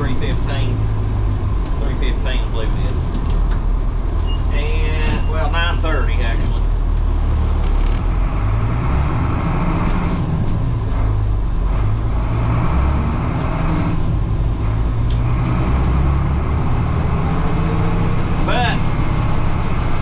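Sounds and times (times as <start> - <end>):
road noise: 0.0 - 20.0
truck engine running: 0.0 - 20.0.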